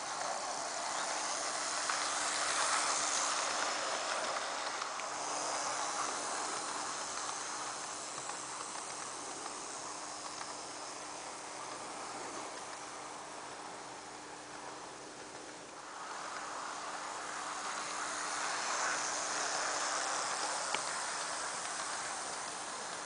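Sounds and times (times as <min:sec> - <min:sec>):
faint steady hum: 0:00.0 - 0:23.0
model train running on track: 0:00.0 - 0:23.0.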